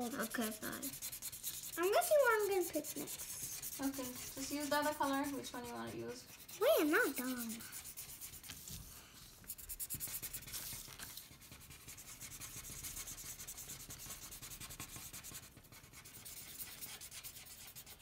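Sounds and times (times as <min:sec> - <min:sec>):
markers scribbling on paper: 0:00.0 - 0:18.0.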